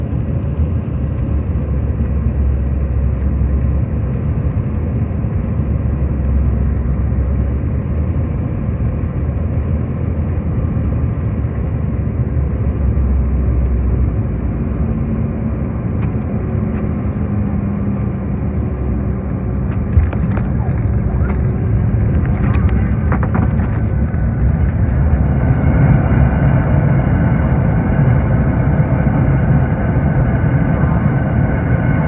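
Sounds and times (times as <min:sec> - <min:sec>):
airliner landing rumble: 0:00.0 - 0:32.0.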